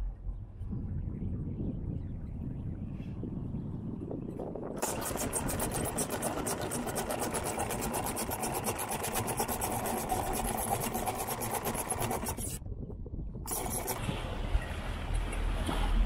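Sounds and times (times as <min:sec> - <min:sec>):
windlass whine: 0:00.0 - 0:16.0.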